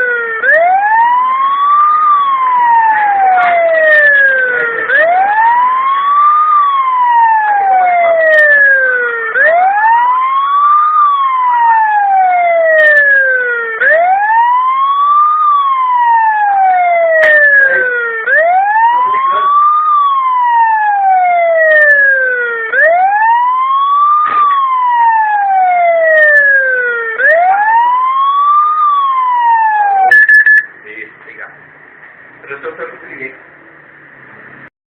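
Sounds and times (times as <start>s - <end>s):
wailing alarm siren: 0.0s - 30.6s.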